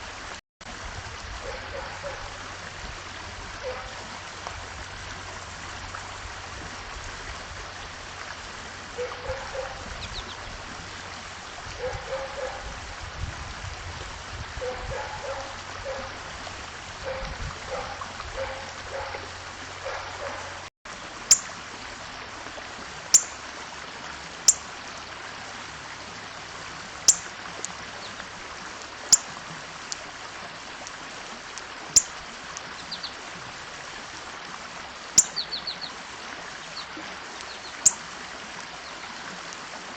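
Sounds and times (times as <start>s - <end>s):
rushing like running water: 0.0s - 39.9s.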